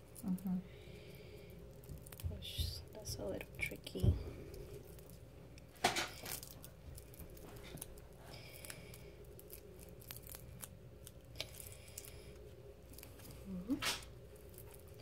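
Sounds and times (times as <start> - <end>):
plastic wrap crinkling and tearing: 1.8 - 12.2, 12.8 - 15.0.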